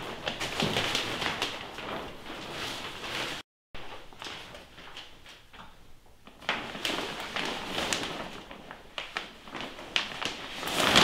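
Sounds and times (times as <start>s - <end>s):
plastic sheeting crinkling: 0.0s - 11.0s.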